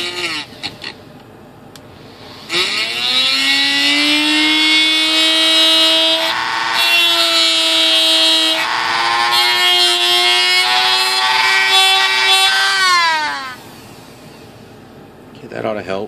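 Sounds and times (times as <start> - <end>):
rotary tool grinding whine: 0.0 - 1.0, 2.0 - 14.5.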